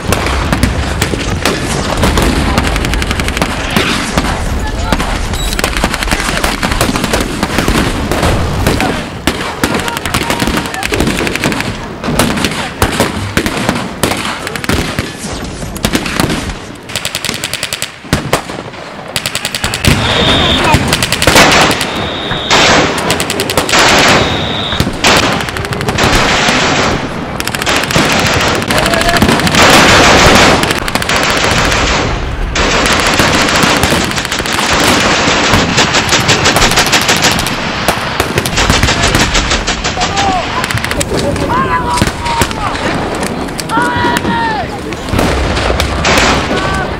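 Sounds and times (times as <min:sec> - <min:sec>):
rapid machine-gun fire: 0:00.0 - 0:15.2, 0:15.8 - 0:43.2, 0:45.1 - 0:46.6
rifle shots: 0:00.0 - 0:44.3, 0:44.9 - 0:46.9.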